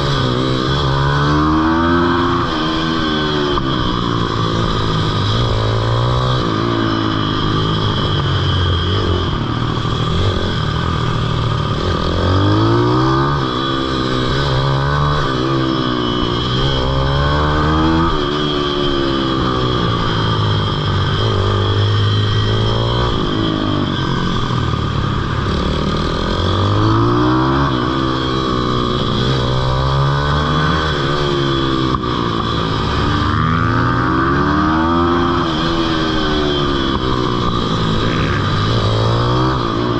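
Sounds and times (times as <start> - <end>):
pitbike engine revving: 0.0 - 39.9.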